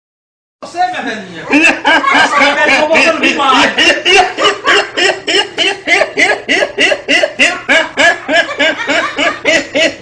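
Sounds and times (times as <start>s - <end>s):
person laughing: 1.5s - 10.0s.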